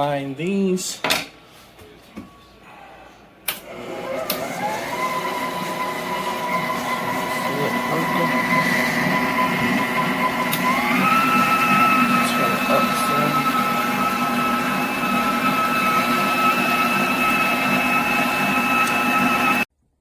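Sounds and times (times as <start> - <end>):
stand mixer motor whine: 3.6 - 19.7.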